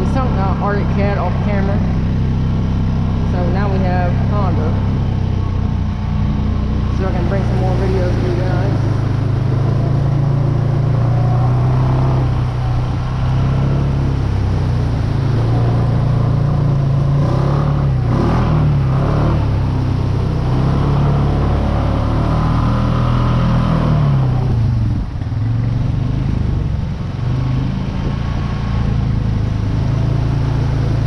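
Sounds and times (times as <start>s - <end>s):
off-road vehicle engine running: 0.0s - 31.0s.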